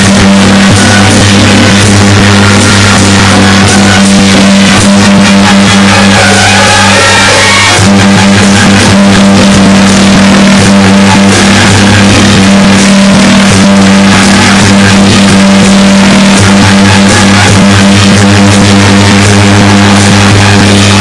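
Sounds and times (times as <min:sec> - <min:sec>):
percussion clatter: 0:00.0 - 0:21.0
procession music held tones: 0:00.0 - 0:21.0.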